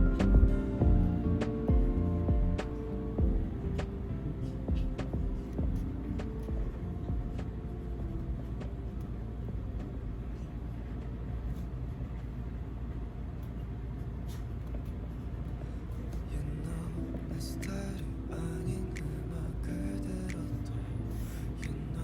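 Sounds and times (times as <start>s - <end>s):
road vehicle rumble: 0.0s - 22.0s.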